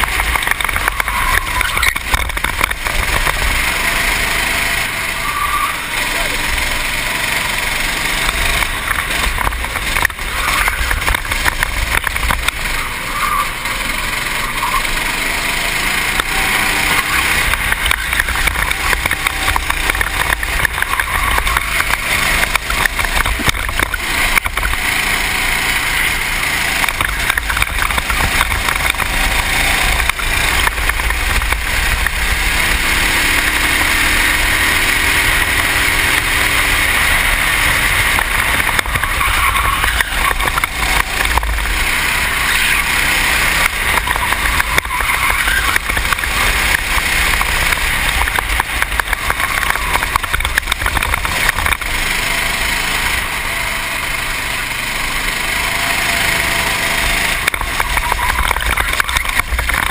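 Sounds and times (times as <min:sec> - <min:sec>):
kart engine racing: 0:00.0 - 0:59.9.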